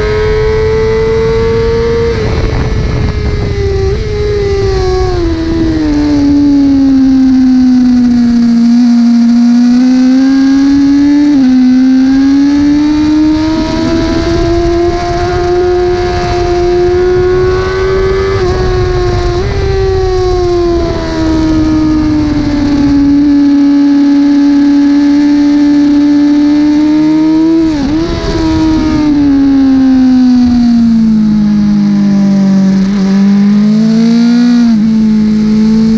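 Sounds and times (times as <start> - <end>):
superbike engine at racing revs: 0.0 - 35.9.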